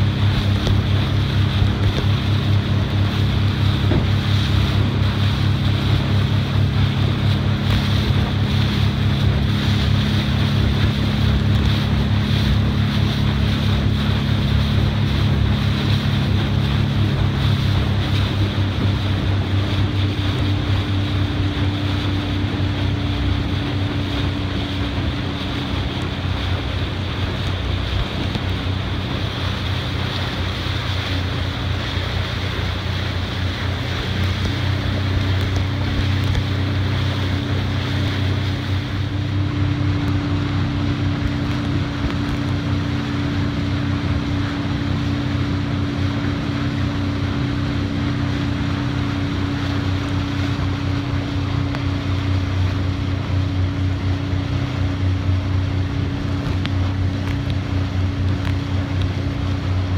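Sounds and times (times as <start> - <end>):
boat engine humming: 0.0 - 59.9
water washing: 0.0 - 59.9
wind buffeting microphone: 0.0 - 59.9.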